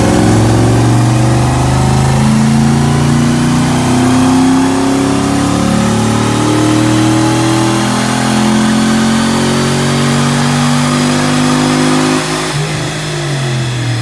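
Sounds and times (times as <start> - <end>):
car engine revving on dyno: 0.0 - 14.0.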